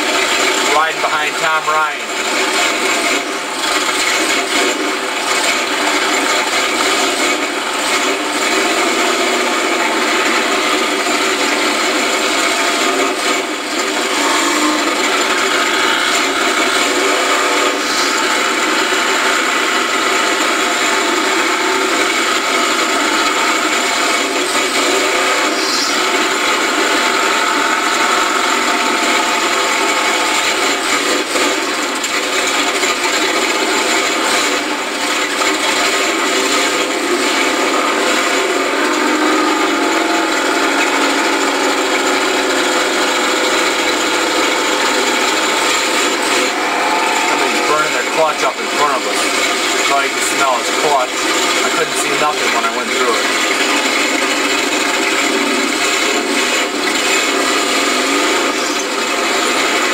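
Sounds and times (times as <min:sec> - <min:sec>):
truck engine running loudly: 0:00.0 - 0:59.9.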